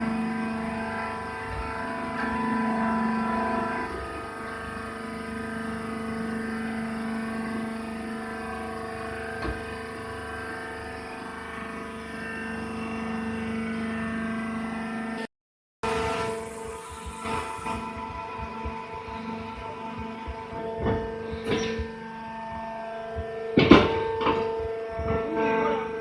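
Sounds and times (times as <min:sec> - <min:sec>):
baler pump and motor humming: 0:00.0 - 0:26.0.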